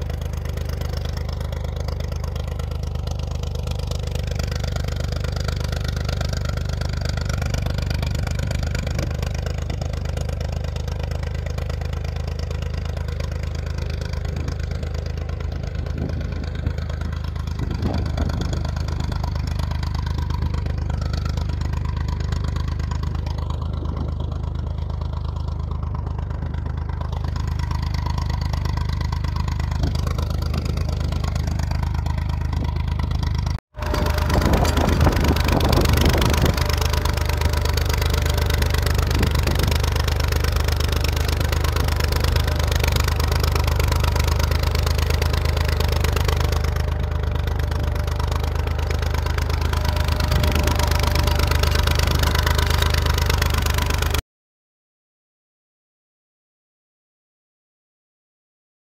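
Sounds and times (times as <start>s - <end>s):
tractor diesel engine running: 0.0s - 54.2s.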